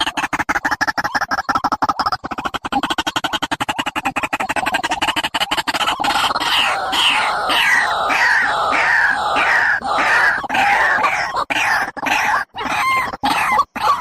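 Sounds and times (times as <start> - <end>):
recorded bird call: 0.0 - 14.0.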